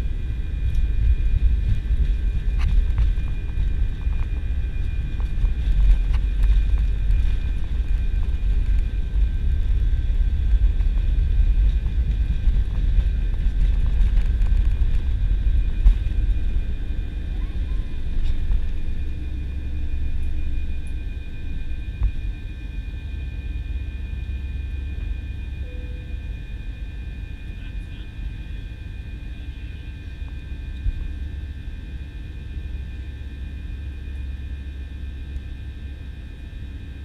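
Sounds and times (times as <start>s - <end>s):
deep engine and wheel rumble: 0.0s - 37.0s
high engine whine: 0.0s - 37.0s.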